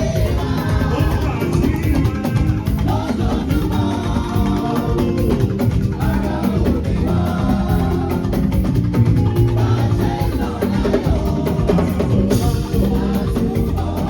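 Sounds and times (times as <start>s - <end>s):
upbeat music with singing: 0.0s - 14.0s.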